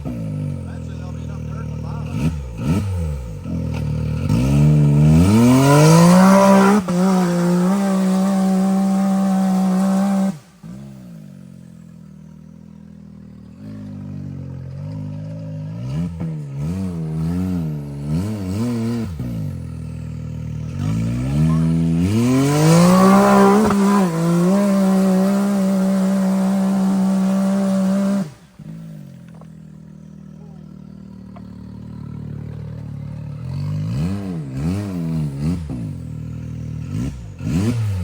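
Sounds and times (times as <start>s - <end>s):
utility vehicle engine revving: 0.0s - 38.0s.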